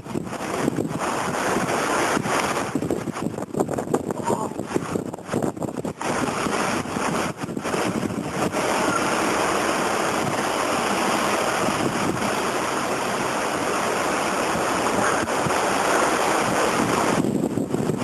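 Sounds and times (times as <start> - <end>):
strong wind blowing: 0.0 - 18.0.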